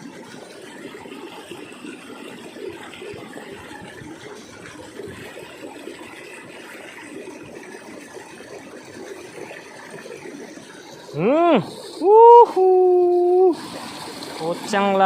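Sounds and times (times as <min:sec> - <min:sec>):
water rushing in a ditch: 0:00.0 - 0:15.0.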